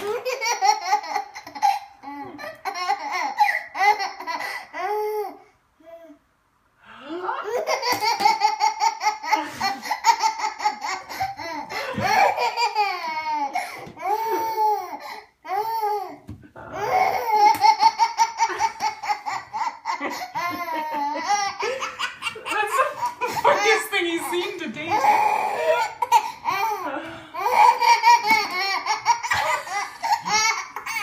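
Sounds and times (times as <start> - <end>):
baby laughing hysterically: 0.0 - 5.2, 7.5 - 15.9, 16.7 - 24.3, 24.9 - 31.0.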